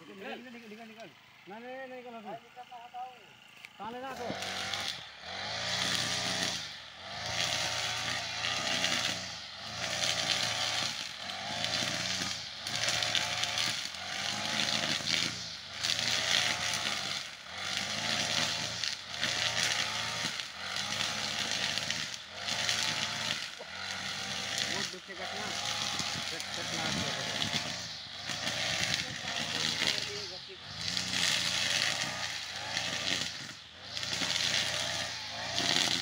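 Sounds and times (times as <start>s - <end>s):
brush cutter engine running: 0.0s - 36.0s.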